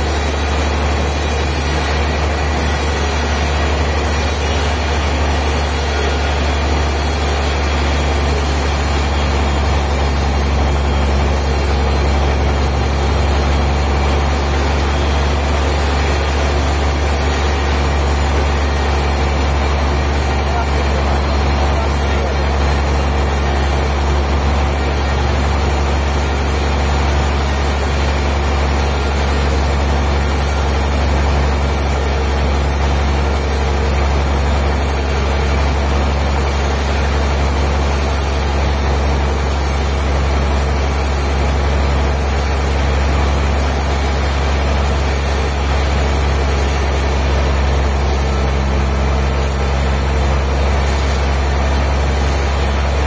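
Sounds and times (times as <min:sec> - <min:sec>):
heavy engine running: 0:00.0 - 0:53.0.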